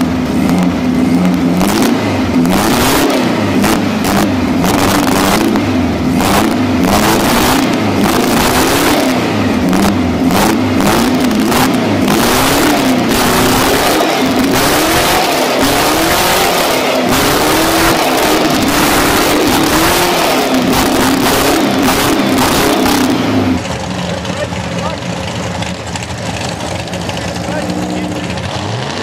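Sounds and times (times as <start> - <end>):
engine revving up and down: 0.0 - 29.0.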